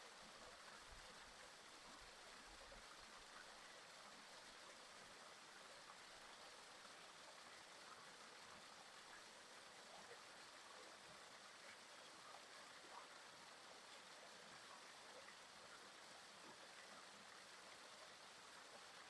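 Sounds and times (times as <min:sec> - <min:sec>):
faint woodland stream babbling: 0:00.0 - 0:19.0.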